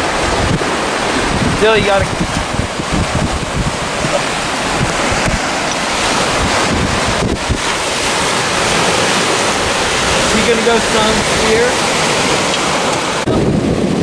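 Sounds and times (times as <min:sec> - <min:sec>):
ocean surf breaking over rocks: 0:00.0 - 0:14.0
wind buffeting microphone: 0:00.0 - 0:14.0.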